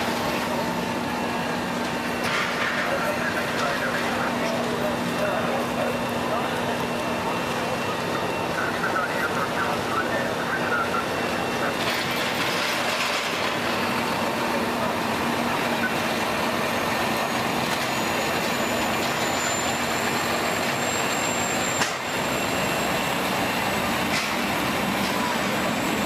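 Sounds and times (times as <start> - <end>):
truck diesel engine running: 0.0 - 26.0
faint high whine: 2.7 - 26.0.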